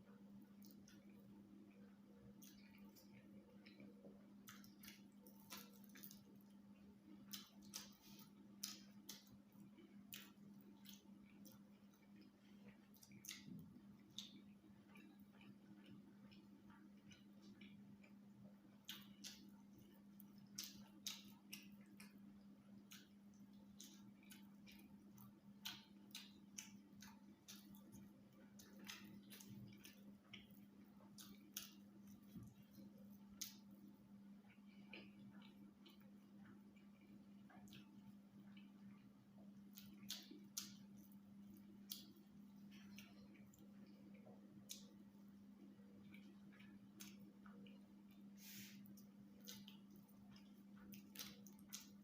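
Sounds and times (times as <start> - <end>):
steady low hum: 0.0 - 52.0
person chewing and lip-smacking: 0.1 - 52.0.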